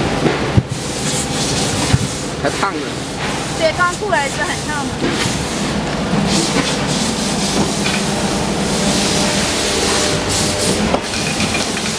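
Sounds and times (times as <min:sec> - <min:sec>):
machinery low hum: 0:00.0 - 0:11.9
machinery hiss: 0:00.7 - 0:11.9.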